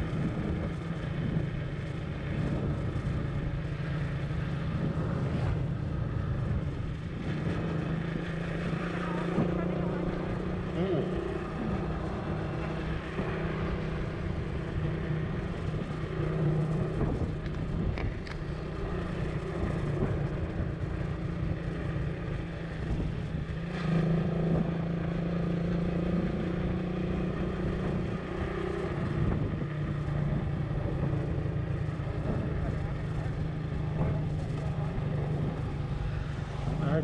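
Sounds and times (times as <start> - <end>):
vehicle engine running: 0.0 - 37.0
wind and road noise: 0.0 - 37.0.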